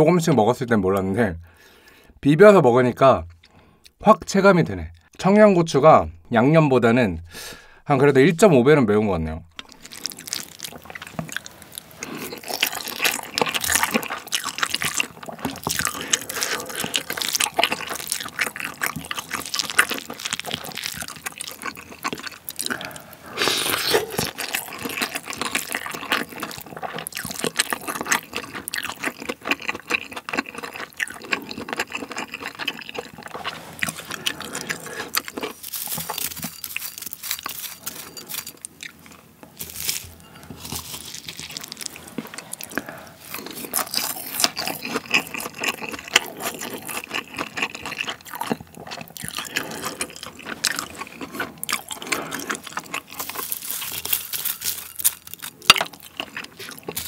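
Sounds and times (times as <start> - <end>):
wet chewing: 9.6 - 57.0.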